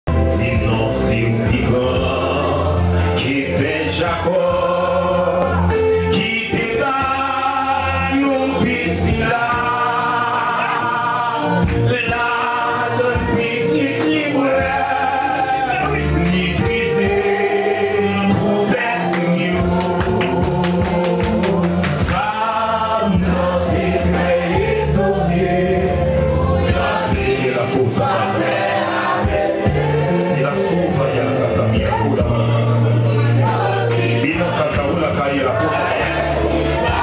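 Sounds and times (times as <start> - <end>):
bass line: 0.0 - 37.0
voices singing together: 0.2 - 37.0
steady percussion: 4.0 - 37.0.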